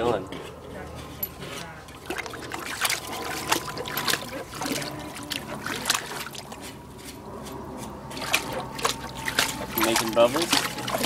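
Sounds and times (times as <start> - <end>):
dog splashing water: 1.8 - 11.0.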